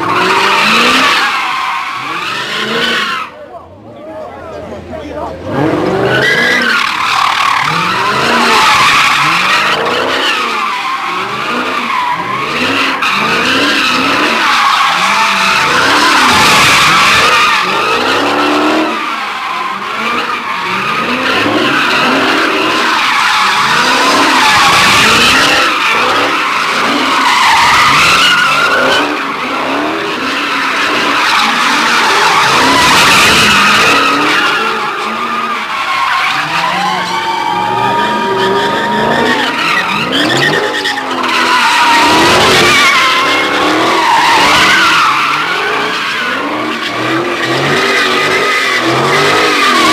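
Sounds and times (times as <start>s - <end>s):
car engines revving: 0.0s - 49.9s
tires squealing: 0.0s - 49.9s.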